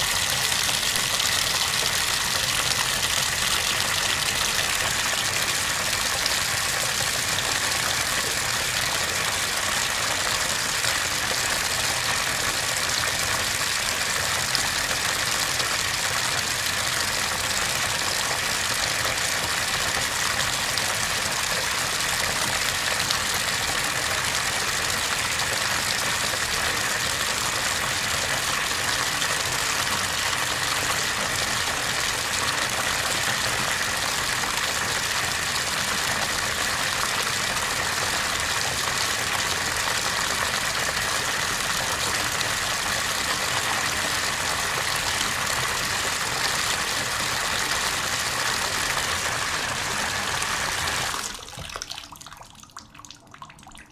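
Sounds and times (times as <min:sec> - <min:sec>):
bathtub faucet running: 0:00.0 - 0:53.9.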